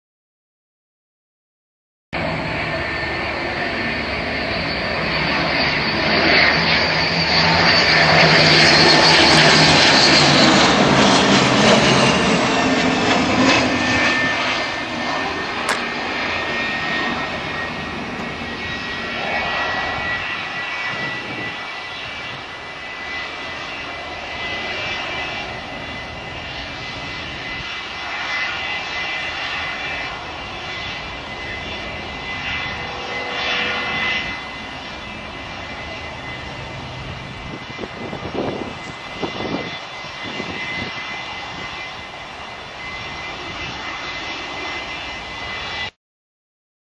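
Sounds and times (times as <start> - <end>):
jet engines whining: 2.2 - 46.0.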